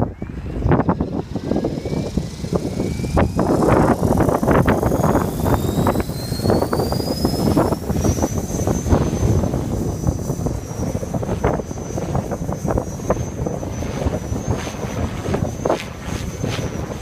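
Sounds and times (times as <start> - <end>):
rc helicopter motor whining: 0.0 - 17.0
wind noise on microphone: 0.0 - 17.0.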